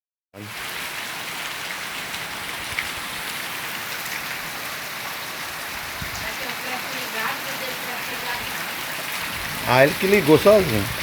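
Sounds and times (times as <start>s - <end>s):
heavy rain pattering: 0.4s - 11.0s.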